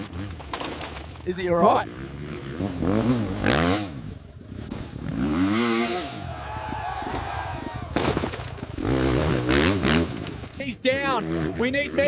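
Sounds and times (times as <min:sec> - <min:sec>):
dirt bike engine revving: 0:00.0 - 0:07.7, 0:08.5 - 0:12.0.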